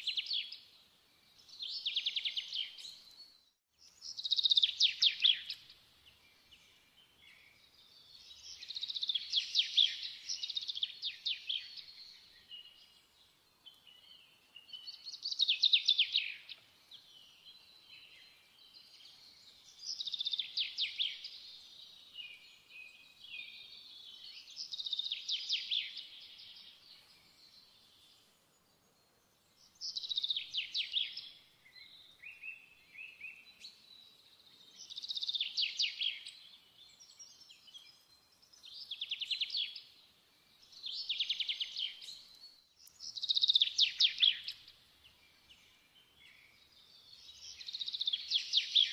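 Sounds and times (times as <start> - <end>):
soft bird twittering: 0.0 - 48.9.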